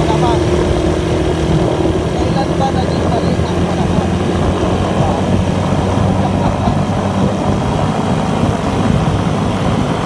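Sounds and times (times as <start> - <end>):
motorcycle engine running: 0.0 - 10.0
wind noise on microphone: 0.0 - 10.0.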